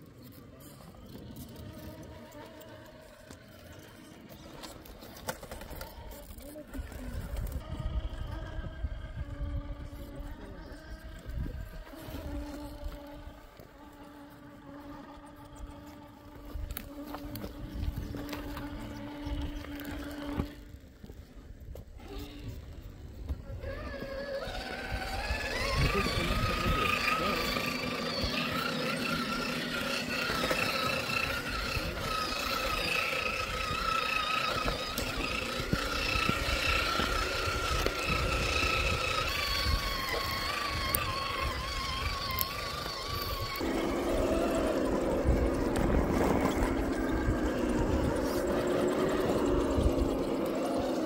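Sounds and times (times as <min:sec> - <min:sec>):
electric motor and gearbox whine: 0:00.0 - 0:51.0.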